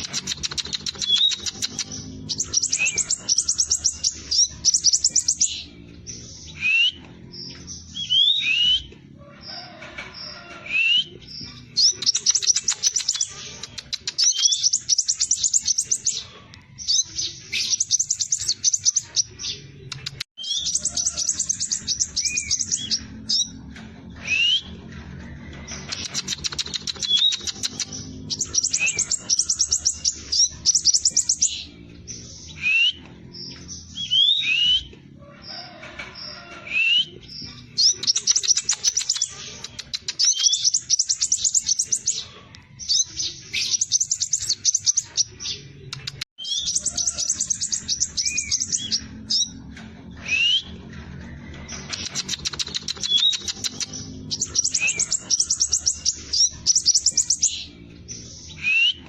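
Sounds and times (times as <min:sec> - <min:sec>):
bird trilling: 0:00.0 - 0:23.6, 0:25.7 - 0:42.3, 0:43.4 - 0:49.6, 0:51.7 - 0:59.0.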